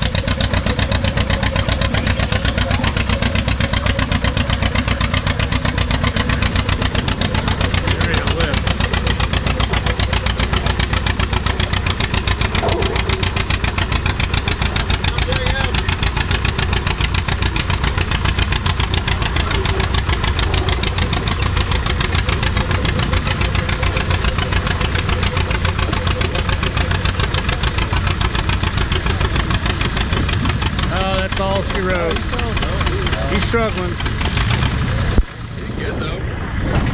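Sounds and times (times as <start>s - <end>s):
tractor engine working under load: 0.0s - 36.9s.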